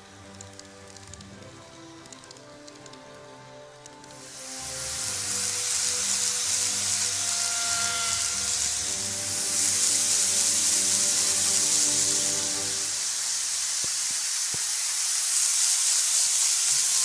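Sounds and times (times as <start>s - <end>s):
loud even hiss: 0.0s - 17.0s
model train motor whining: 0.0s - 17.0s.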